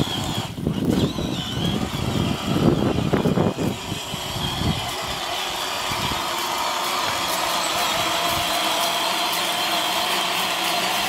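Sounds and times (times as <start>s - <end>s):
toy car electric motor whining: 0.0s - 11.0s
wheels rustling over leaves: 0.0s - 11.0s.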